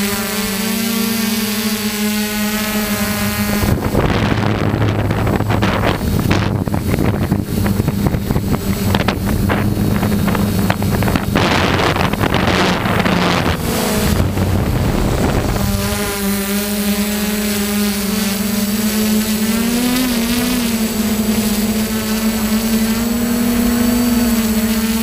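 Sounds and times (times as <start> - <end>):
drone motors whining hum: 0.0 - 25.0
wind noise on microphone: 0.0 - 25.0.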